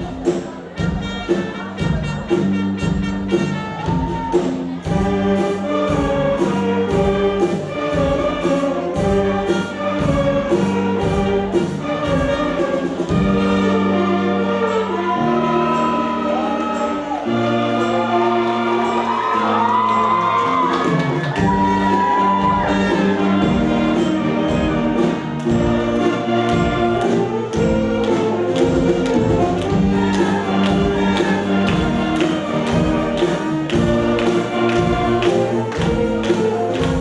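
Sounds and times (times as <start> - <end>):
concert band playing: 0.0 - 37.0.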